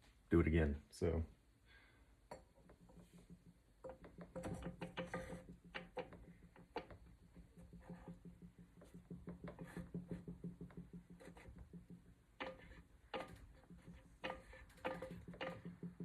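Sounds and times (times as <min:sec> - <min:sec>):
light metal-on-metal knocks: 0:02.3 - 0:16.0.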